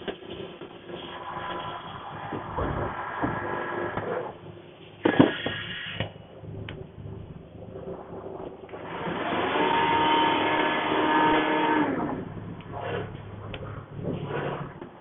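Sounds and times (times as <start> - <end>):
low hum: 0.0 - 15.0
motor whine: 0.8 - 15.0.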